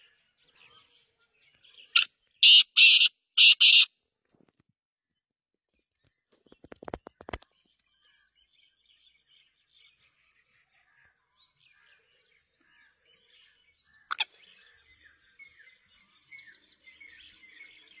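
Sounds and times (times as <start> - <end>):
small birds chirping: 0.0 - 3.9, 5.7 - 18.0.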